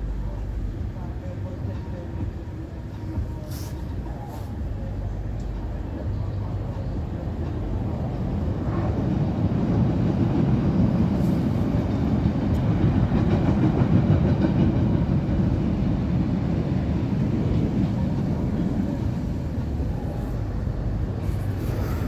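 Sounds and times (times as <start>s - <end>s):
train rumbling on elevated track: 0.0s - 22.0s.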